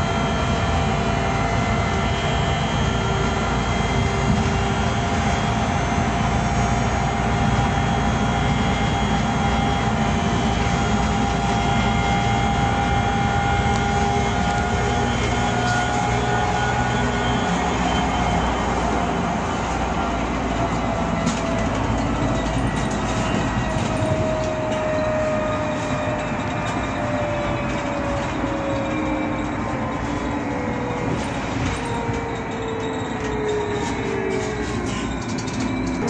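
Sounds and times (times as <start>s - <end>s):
trolleybus electrical whine: 0.0s - 36.0s.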